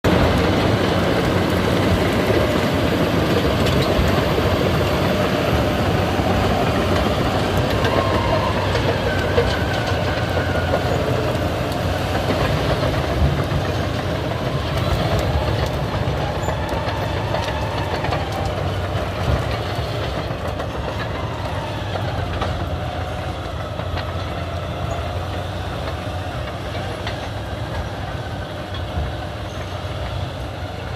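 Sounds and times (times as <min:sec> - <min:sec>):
diesel engine running: 0:00.0 - 0:30.9
steel tracks clattering: 0:00.0 - 0:30.9.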